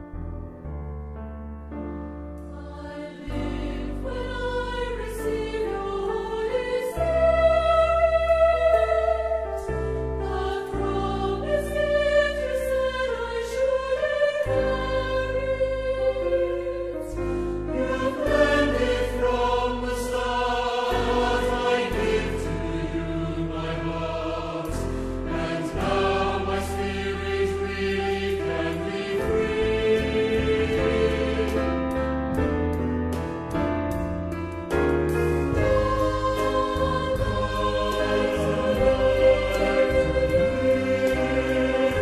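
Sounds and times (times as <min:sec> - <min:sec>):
instrumental accompaniment with bass: 0:00.0 - 0:42.0
choir singing worship song: 0:02.4 - 0:32.0, 0:35.5 - 0:42.0.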